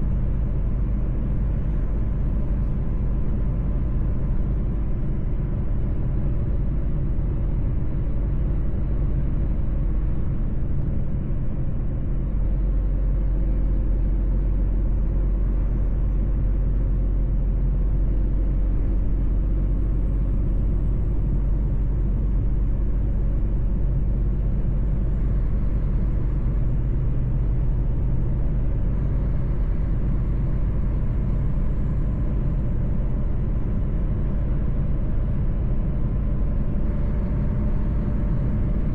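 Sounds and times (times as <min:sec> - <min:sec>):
road rumble: 0:00.0 - 0:38.9
truck engine drone: 0:00.0 - 0:38.9.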